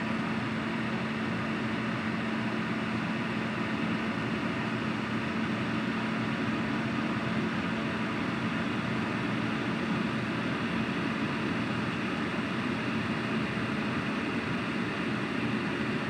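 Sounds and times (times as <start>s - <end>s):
heater blower fan running: 0.0s - 16.0s.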